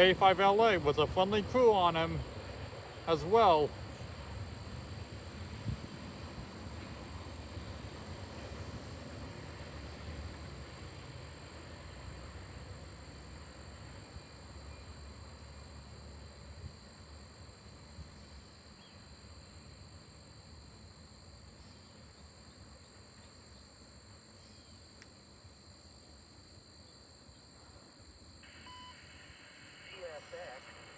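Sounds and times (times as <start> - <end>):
faint insect chorus: 0.0 - 30.9.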